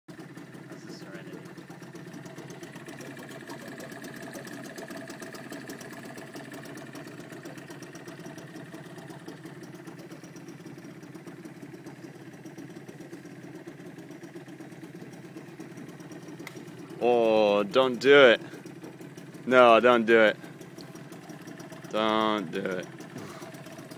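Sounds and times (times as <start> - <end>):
outboard motor running: 0.1 - 23.9.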